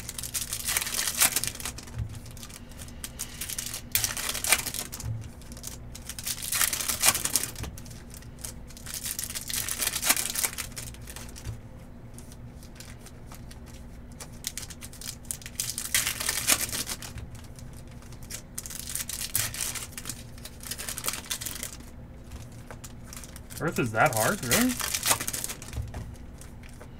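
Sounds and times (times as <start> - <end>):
wrappers crinkling and tearing: 0.0 - 26.9.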